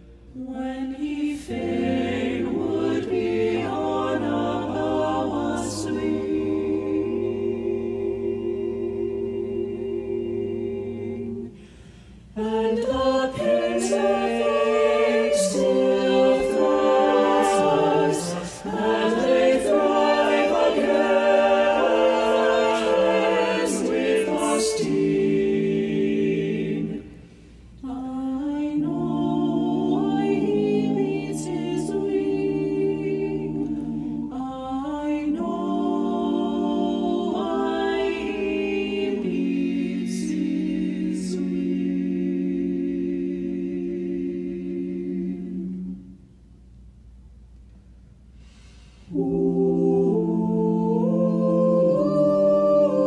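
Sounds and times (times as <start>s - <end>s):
vocal ensemble singing in harmony: 0.0s - 46.7s, 48.0s - 53.0s.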